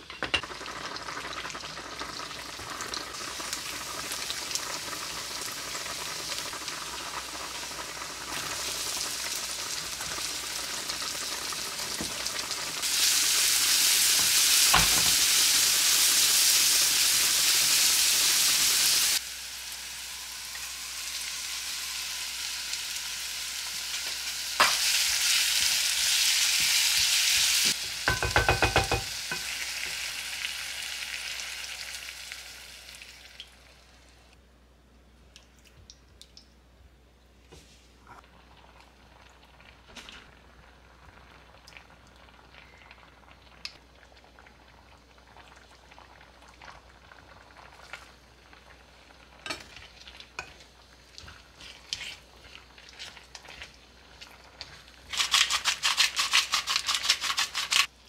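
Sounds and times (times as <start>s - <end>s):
food sizzling in a pan: 0.0s - 34.0s, 44.2s - 58.0s.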